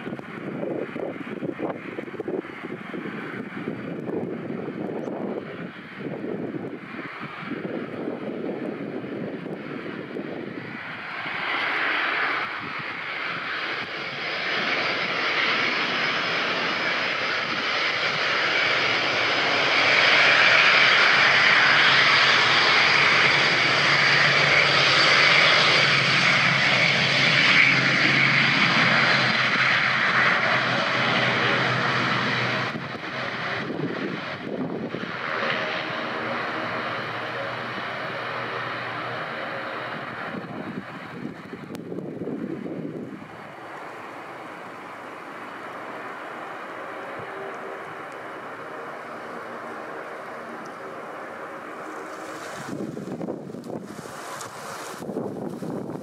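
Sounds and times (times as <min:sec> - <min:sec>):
turboprop aircraft taxiing: 0:00.0 - 0:56.0.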